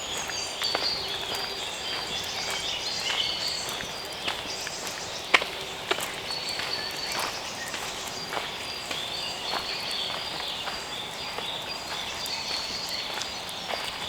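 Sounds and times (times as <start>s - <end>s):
birds singing: 0.0s - 14.0s
footsteps on dry leaves: 0.0s - 14.0s.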